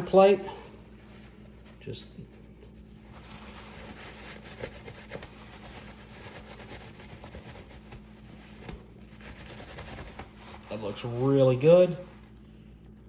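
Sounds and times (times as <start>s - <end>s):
rubbing and wiping strokes: 0.0s - 13.0s.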